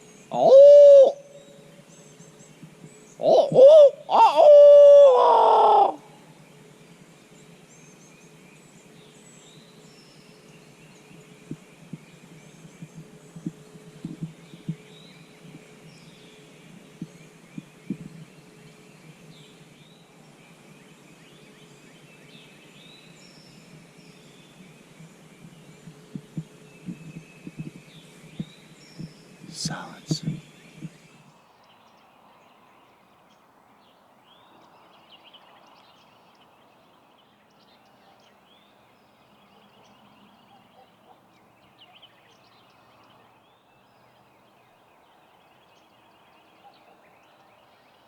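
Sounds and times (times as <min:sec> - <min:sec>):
faint steady hum: 0:00.0 - 0:48.0
songbirds chirping faintly: 0:00.0 - 0:48.0.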